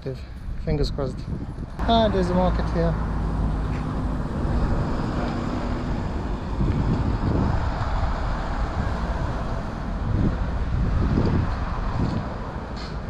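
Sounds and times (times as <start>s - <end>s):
traffic: 0.0s - 13.0s
wind rumbling on microphone: 0.2s - 13.0s.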